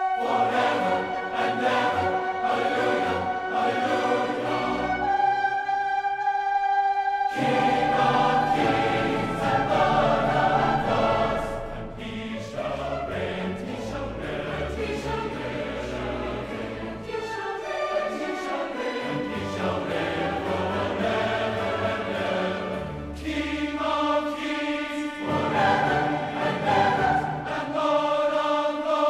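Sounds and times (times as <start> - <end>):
choir singing with orchestra: 0.0 - 29.0.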